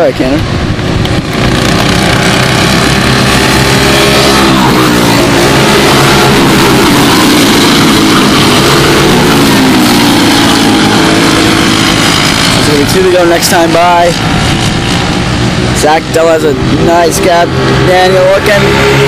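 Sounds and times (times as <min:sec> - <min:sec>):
kart engines racing: 0:00.0 - 0:19.0.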